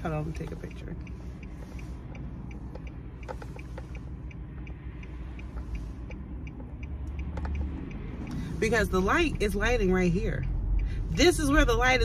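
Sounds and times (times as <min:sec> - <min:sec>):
car cabin rumble: 0:00.0 - 0:12.0
quick regular ticking: 0:00.0 - 0:12.0.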